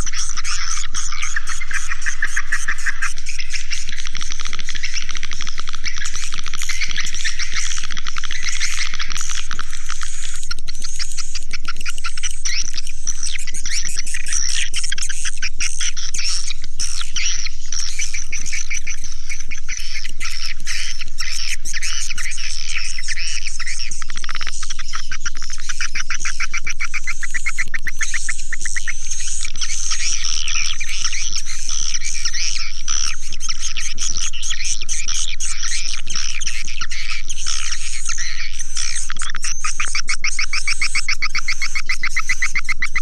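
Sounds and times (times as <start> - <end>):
swiftlets twittering chorus: 0.0 - 43.0.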